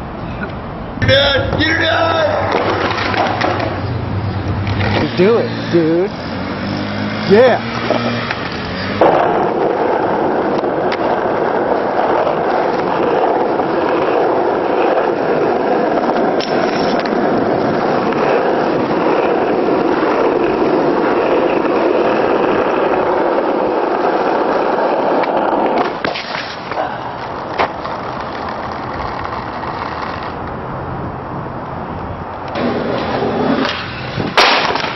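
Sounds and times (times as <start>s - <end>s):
skateboard wheels rolling on asphalt: 0.0s - 34.9s
skateboard grinding on metal bar: 1.6s - 30.4s, 32.6s - 34.9s.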